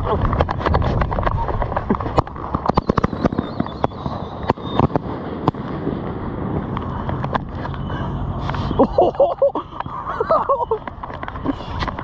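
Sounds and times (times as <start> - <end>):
firework cracks and pops: 0.0 - 8.8, 10.6 - 12.0.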